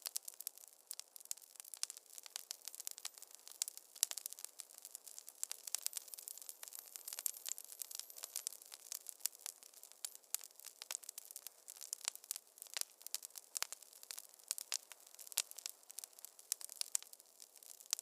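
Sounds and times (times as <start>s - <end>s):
faint steady hiss: 0.0s - 18.0s
wood fire crackling: 0.0s - 18.0s.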